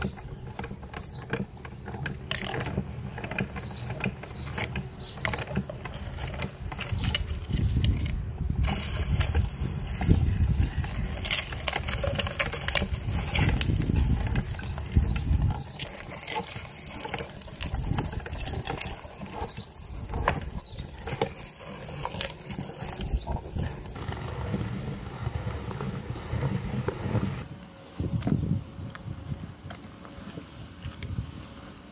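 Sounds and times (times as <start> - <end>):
meat grinder crushing plastic capsule: 0.0 - 27.5.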